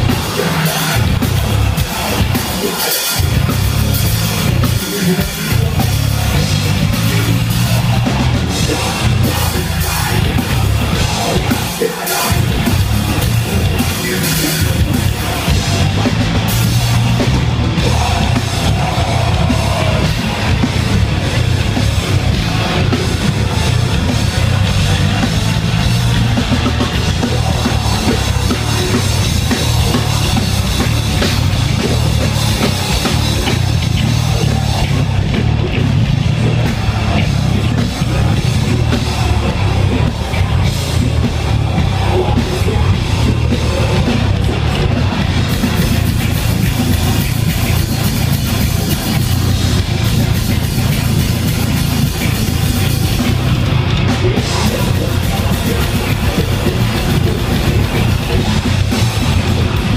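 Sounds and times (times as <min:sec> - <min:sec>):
distorted electric guitars: 0:00.0 - 0:59.9
driving drum kit beat: 0:00.0 - 0:59.9.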